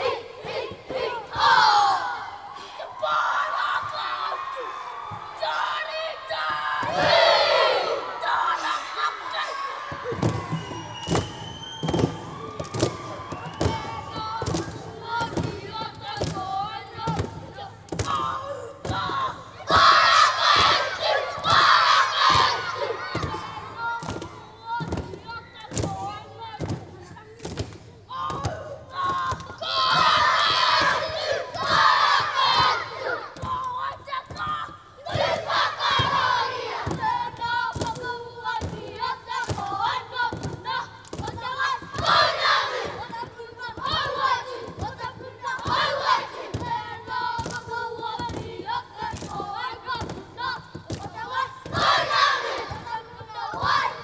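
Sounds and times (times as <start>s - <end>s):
children shouting chants: 0.0s - 54.0s.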